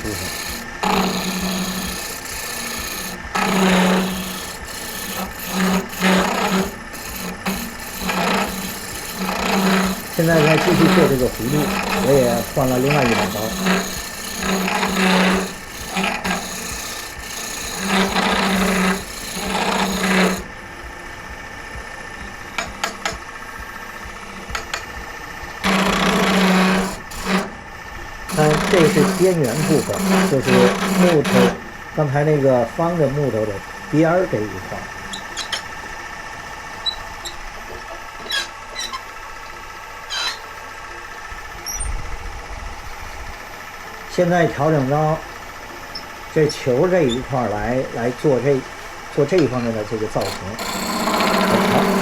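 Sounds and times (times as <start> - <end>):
low hum of lathe: 0.0 - 52.0
wood lathe gouge scraping: 0.0 - 52.0.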